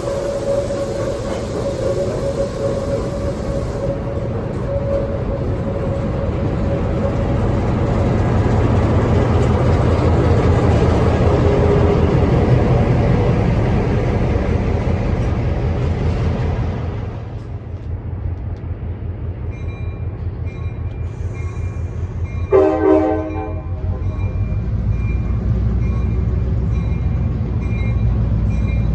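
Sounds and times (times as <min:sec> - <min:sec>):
diesel locomotive passing: 0:00.0 - 0:28.9.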